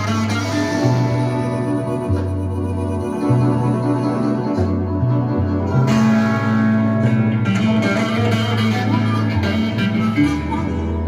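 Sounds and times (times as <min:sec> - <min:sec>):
guitar: 0:00.0 - 0:11.0
instrumental music over loudspeakers: 0:00.0 - 0:11.0
sustained bass notes: 0:00.0 - 0:11.0.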